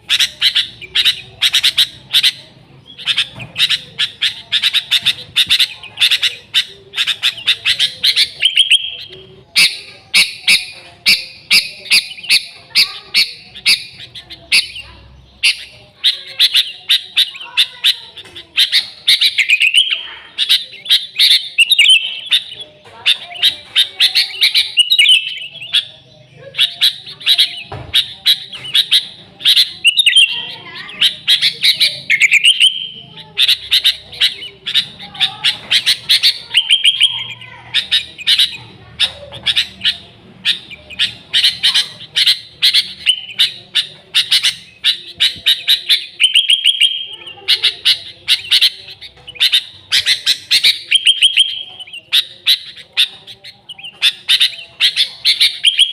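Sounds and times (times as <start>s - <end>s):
bulbul singing: 0.0s - 55.9s.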